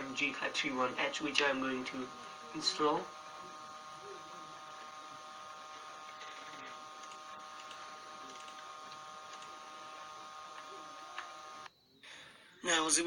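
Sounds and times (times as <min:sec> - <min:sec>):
high electrical whine: 0:00.0 - 0:12.0
low hiss: 0:00.0 - 0:13.0.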